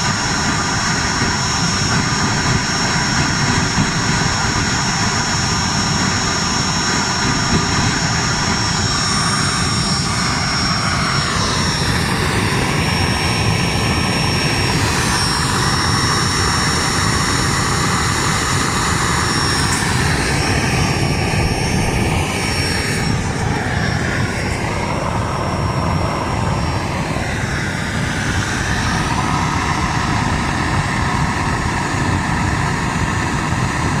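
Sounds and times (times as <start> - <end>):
heater blower and flame rushing: 0.0 - 34.0
thin high whine: 0.0 - 34.0.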